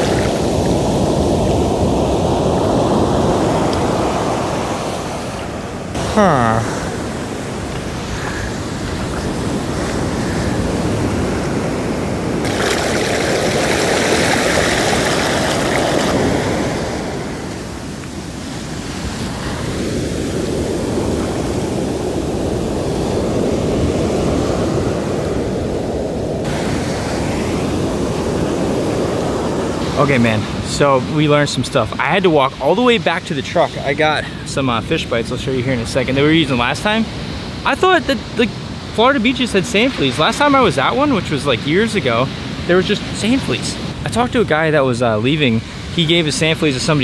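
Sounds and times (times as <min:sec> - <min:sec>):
ocean surf washing over sand: 0:00.0 - 0:47.0.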